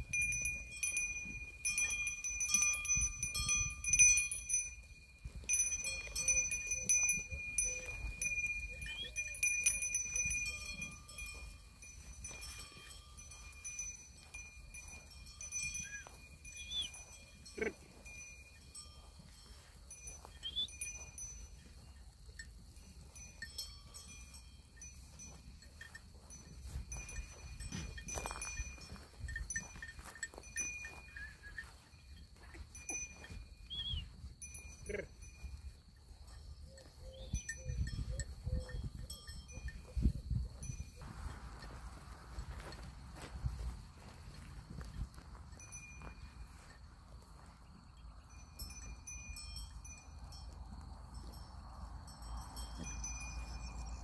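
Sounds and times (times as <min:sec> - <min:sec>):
small bells ringing: 0:00.0 - 0:54.0
wind rumbling on microphone: 0:00.0 - 0:54.0.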